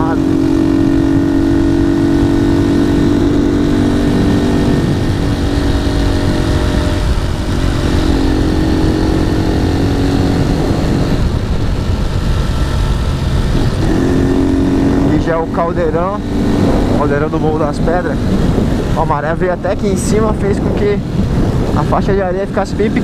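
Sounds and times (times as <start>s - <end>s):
motorcycle engine cruising: 0.0s - 23.0s
wind buffeting microphone: 0.0s - 23.0s.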